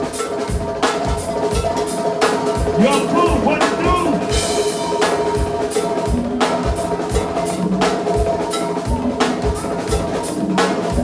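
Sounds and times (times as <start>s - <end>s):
drum kit groove: 0.0s - 11.0s.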